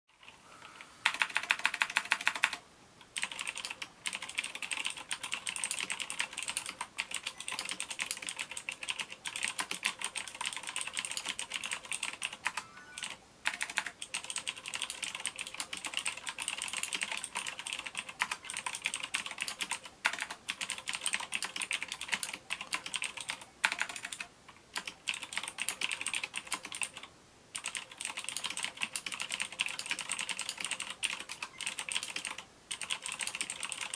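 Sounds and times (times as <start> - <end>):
fast typing on mechanical keyboard: 1.0 - 2.6, 3.2 - 33.9.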